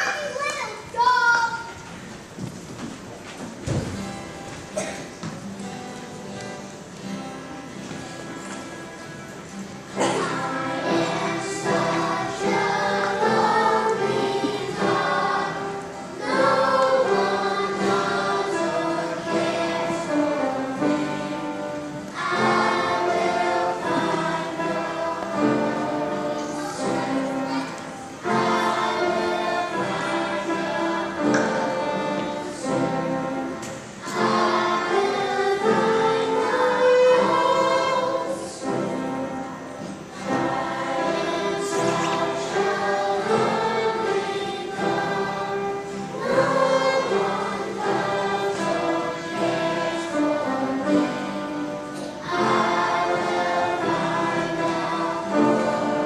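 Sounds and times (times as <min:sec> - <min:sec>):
choir singing held notes: 0:04.0 - 0:56.0.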